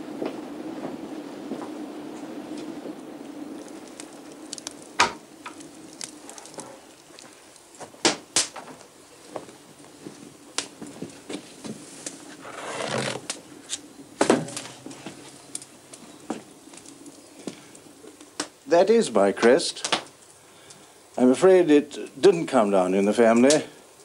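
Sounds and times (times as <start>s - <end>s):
log fire crackling: 0.0s - 24.0s.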